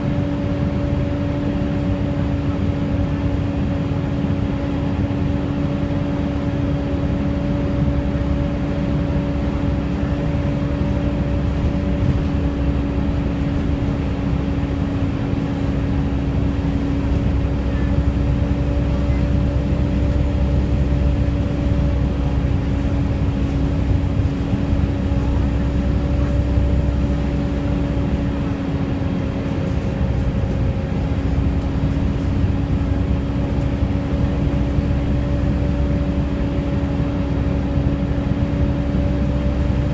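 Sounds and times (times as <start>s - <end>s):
bus cooling fan whine: 0.0s - 39.9s
low engine rumble: 0.0s - 39.9s.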